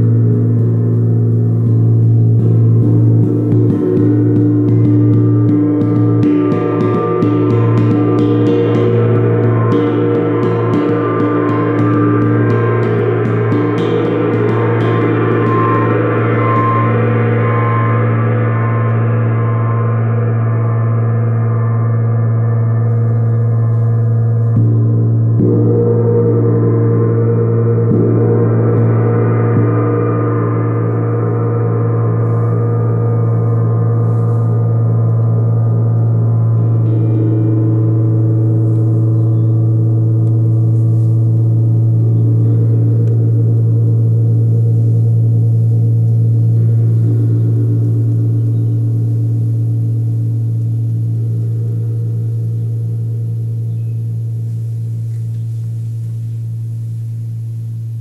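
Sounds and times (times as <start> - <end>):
gong shimmering with deep hum: 0.0 - 58.0.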